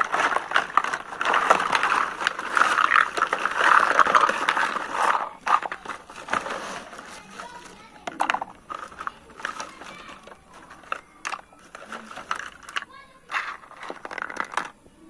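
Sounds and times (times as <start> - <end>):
plastic bag rustling: 0.0 - 14.7
plastic toy dishes clattering: 0.0 - 14.8.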